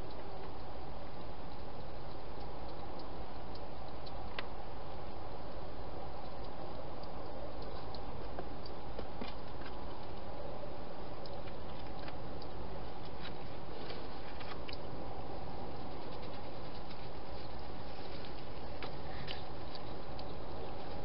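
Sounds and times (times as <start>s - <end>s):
microphone hiss: 0.0s - 21.0s.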